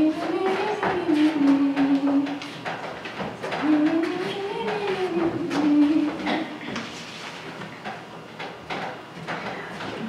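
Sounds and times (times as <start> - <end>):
knocks and shuffles on stage: 0.0 - 10.0.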